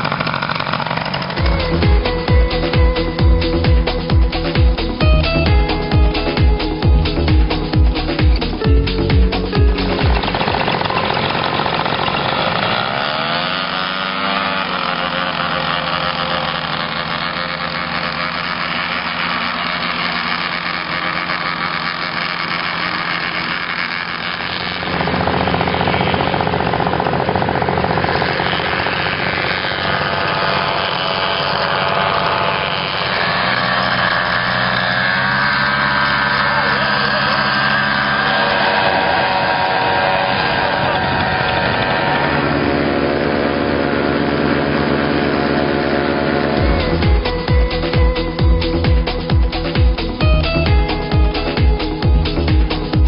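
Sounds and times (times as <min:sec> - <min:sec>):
paramotor engine and propeller: 0:00.0 - 0:53.0.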